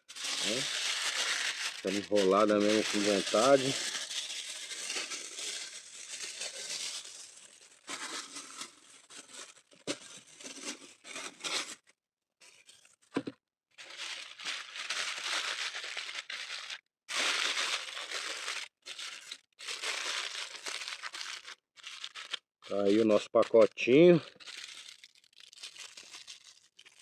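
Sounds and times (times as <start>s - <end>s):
aluminium foil crinkling: 0.0s - 11.8s, 13.8s - 27.0s.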